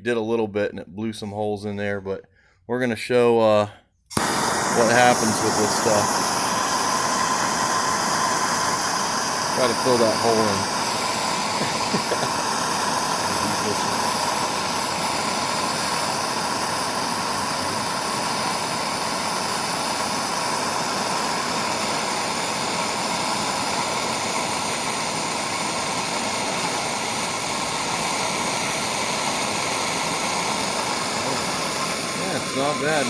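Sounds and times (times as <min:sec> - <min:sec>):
gas torch flame hissing: 0:04.1 - 0:33.0.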